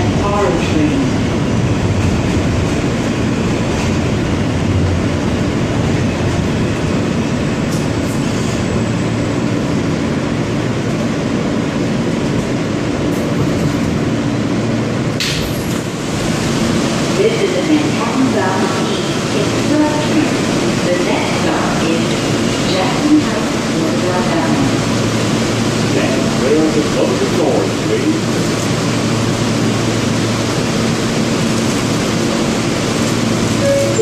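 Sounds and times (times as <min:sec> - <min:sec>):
subway wheels rumbling on rail: 0:00.0 - 0:34.0.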